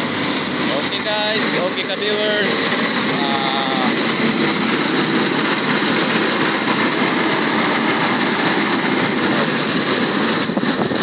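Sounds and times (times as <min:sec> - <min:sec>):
small petrol engine running: 0:00.0 - 0:11.0.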